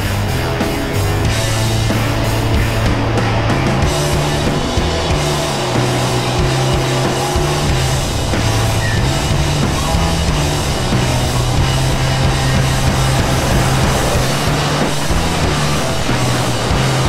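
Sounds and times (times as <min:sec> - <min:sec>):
drums: 0:00.0 - 0:17.0
electric guitar: 0:00.0 - 0:17.0
loud rock music: 0:00.0 - 0:17.0.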